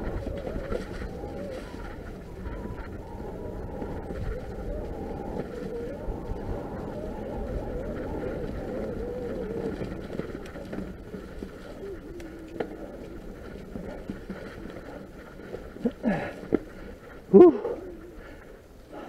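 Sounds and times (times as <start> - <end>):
bike tyres rumbling on dirt: 0.0 - 19.0
faint wavering hum: 0.0 - 19.0
wind on microphone: 0.0 - 19.0.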